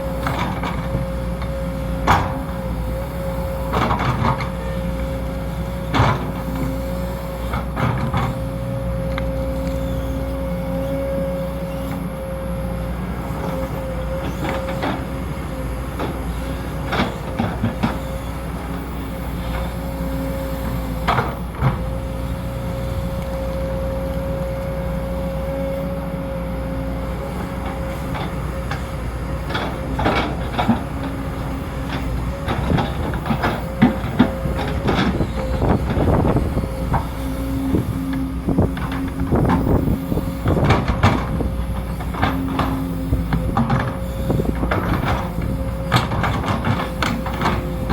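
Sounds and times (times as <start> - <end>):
diesel engine running: 0.0 - 47.9
excavator hydraulic whine: 0.0 - 47.9.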